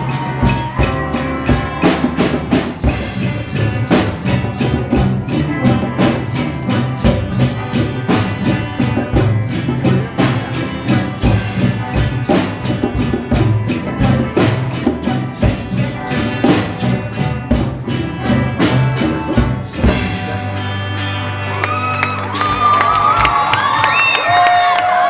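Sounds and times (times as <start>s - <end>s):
live rock band: 0.0s - 25.0s.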